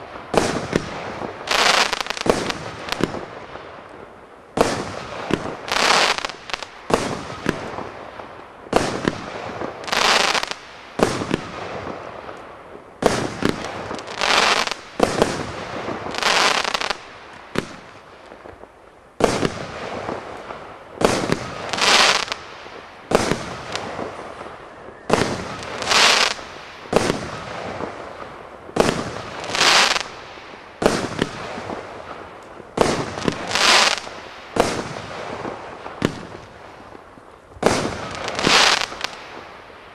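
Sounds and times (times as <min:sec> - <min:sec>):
firework bangs: 0:00.0 - 0:03.7, 0:04.5 - 0:12.4, 0:13.0 - 0:39.7
firework hissing crackle: 0:00.0 - 0:12.4, 0:13.0 - 0:39.8.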